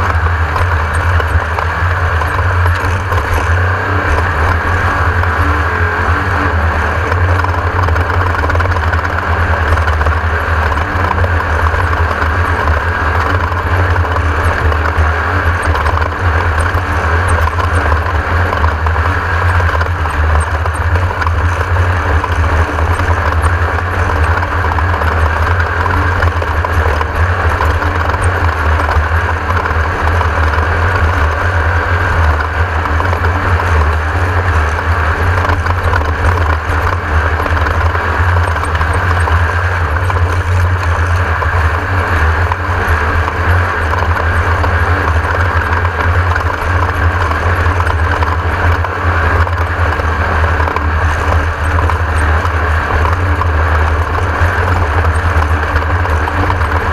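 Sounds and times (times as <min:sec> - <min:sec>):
buggy engine running hard: 0:00.0 - 0:56.9
chassis rattling: 0:00.0 - 0:56.9.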